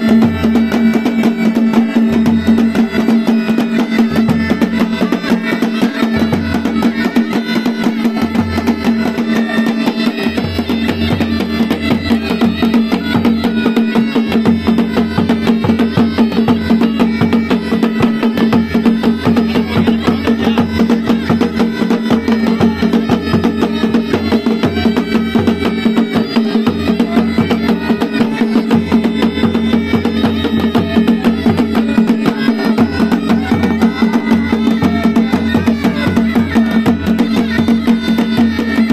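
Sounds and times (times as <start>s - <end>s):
bagpipe melody over drone: 0.0s - 38.9s
drums beating fast rhythm: 0.0s - 38.9s.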